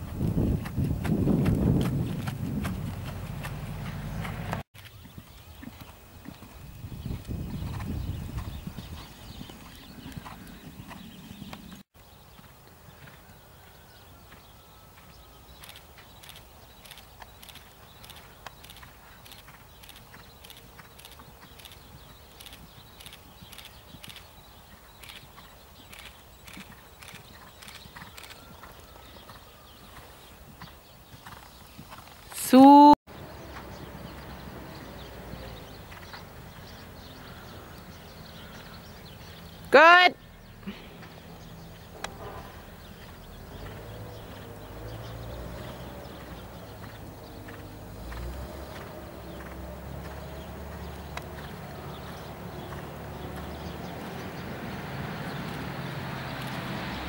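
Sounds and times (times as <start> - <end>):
horse hooves cantering on sand: 0.0 - 32.3, 33.1 - 39.7, 40.4 - 57.0.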